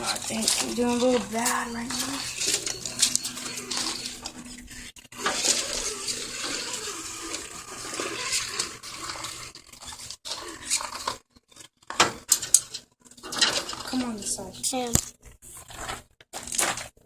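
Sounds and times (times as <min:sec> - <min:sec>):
small electric motor whirring: 0:00.0 - 0:14.6.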